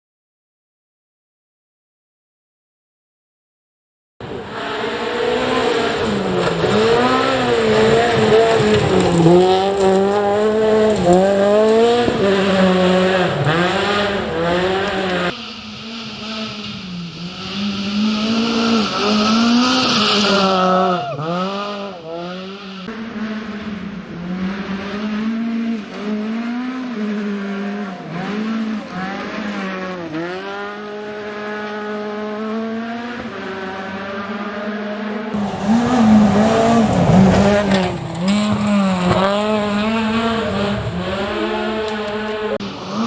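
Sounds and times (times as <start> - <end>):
rally car engine revving: 4.2 - 43.0.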